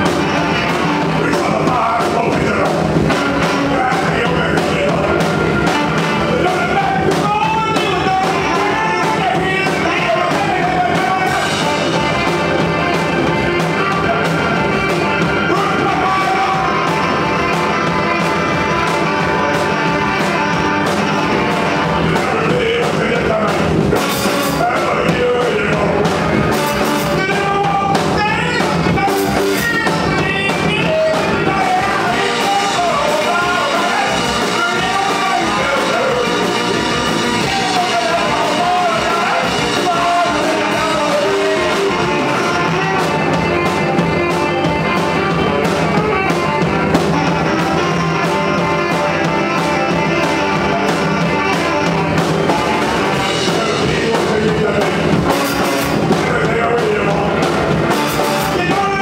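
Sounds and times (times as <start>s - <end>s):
person singing: 0.0s - 59.0s
small band playing live: 0.0s - 59.0s.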